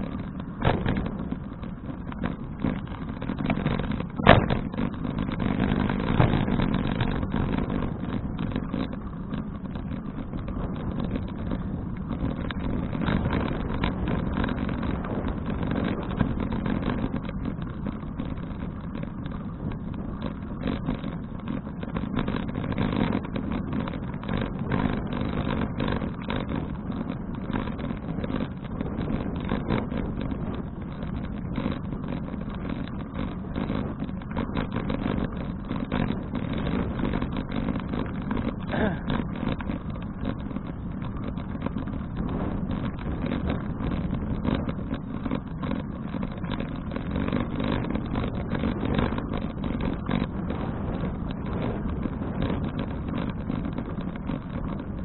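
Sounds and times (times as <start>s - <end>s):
bicycle rattles and clicks: 0.0s - 55.0s
road rumble: 0.0s - 55.0s
wind noise: 0.0s - 55.0s.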